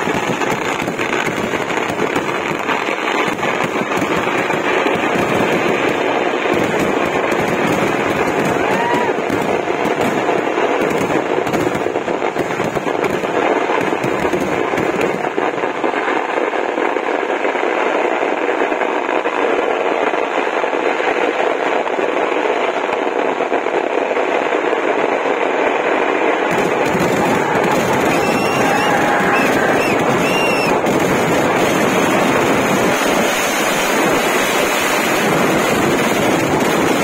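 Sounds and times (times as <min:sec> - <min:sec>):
deep fireworks booming: 0:00.0 - 0:37.0
firecrackers continuous crackle: 0:00.0 - 0:37.0.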